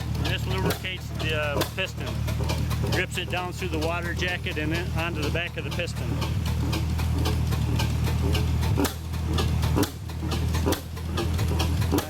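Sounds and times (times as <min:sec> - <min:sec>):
gas engine running with clicking: 0:00.0 - 0:12.0.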